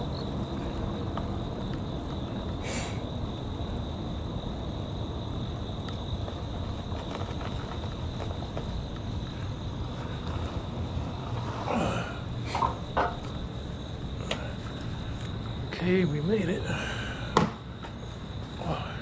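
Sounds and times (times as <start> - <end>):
wind and tyre rumble: 0.0 - 19.0.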